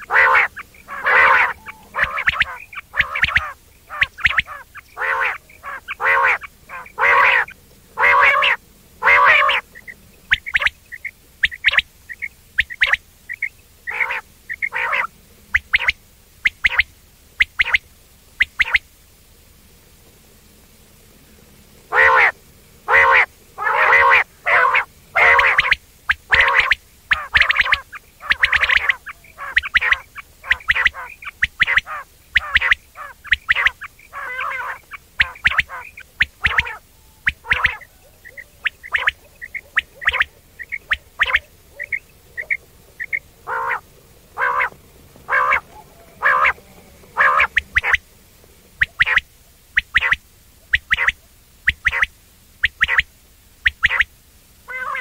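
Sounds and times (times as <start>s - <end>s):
quail calling: 0.0s - 18.9s, 21.9s - 55.0s.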